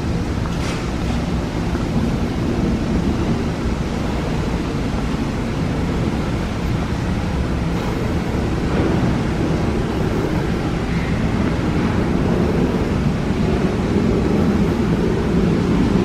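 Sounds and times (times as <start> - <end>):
steady low rumbling: 0.0 - 16.0.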